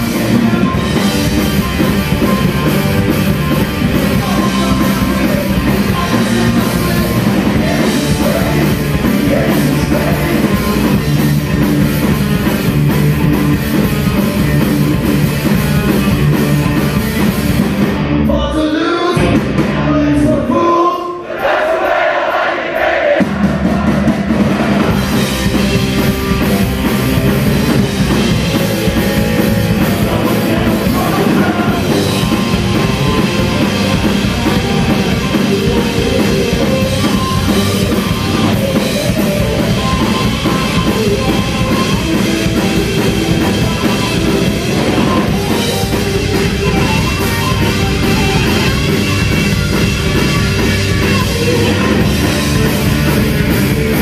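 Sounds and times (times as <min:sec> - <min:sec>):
distorted electric guitars: 0:00.0 - 0:20.7, 0:23.2 - 0:54.0
bass guitar: 0:00.0 - 0:20.9, 0:23.1 - 0:54.0
drum kit: 0:00.0 - 0:54.0.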